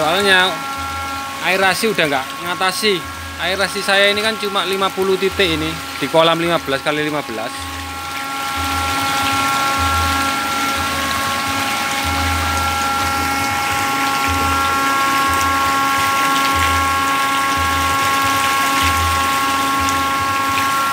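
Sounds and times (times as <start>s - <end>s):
motor and gearbox whine: 0.0s - 20.9s
water churning and splashing: 0.0s - 20.9s.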